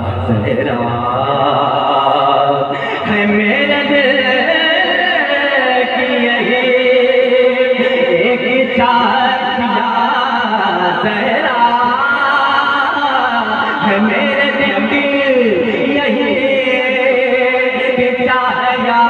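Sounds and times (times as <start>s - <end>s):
man singing into a microphone: 0.0s - 19.0s.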